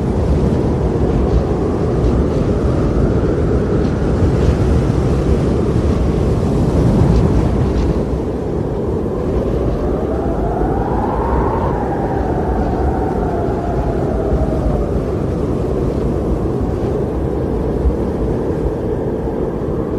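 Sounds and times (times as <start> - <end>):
rumbling wind noise: 0.0 - 19.9.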